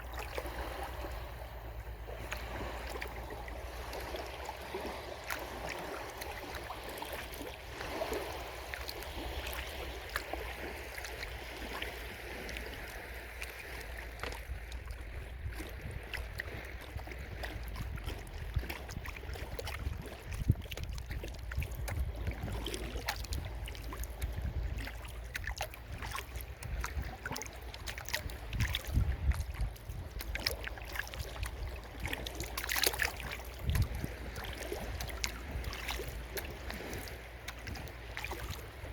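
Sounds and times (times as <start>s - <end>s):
steady low rumble: 0.0s - 16.5s, 17.6s - 38.9s
paddle splashing in water: 0.0s - 38.9s.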